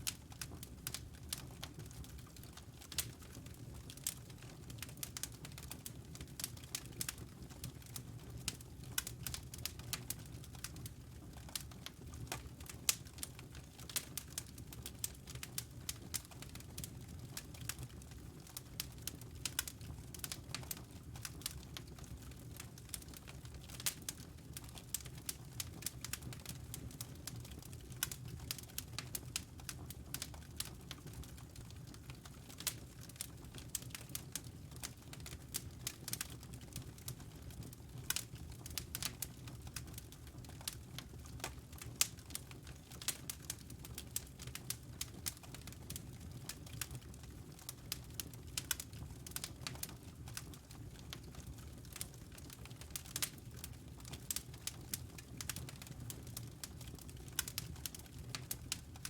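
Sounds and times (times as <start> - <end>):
wood fire crackling: 0.0 - 59.0
low fire rumble: 8.9 - 59.0.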